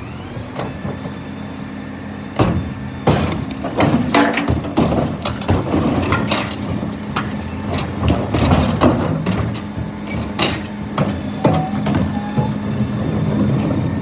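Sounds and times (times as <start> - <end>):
truck engine running: 0.0 - 14.0
knocks and clanks: 2.4 - 14.0.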